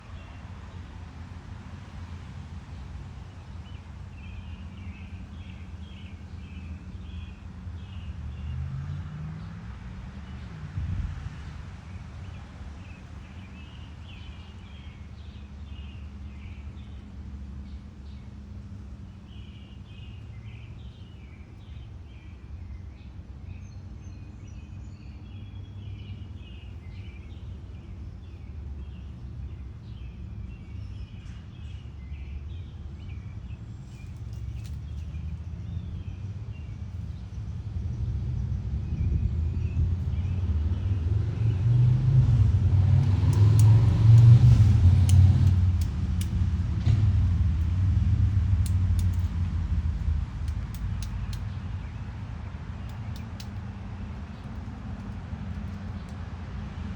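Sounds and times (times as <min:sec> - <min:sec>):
low background rumble: 0:10.3 - 0:56.9.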